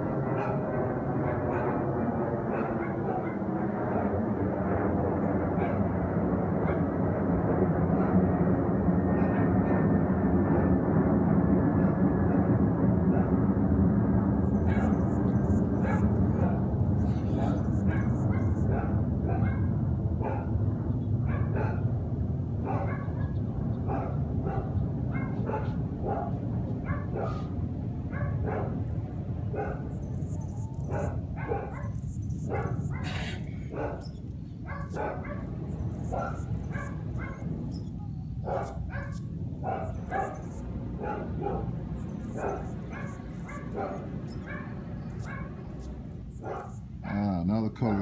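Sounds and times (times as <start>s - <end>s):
dogs barking: 0.0s - 4.2s, 5.4s - 6.0s, 6.6s - 7.0s, 7.8s - 8.4s, 9.1s - 10.8s, 11.8s - 13.5s, 14.3s - 22.0s, 22.6s - 47.4s.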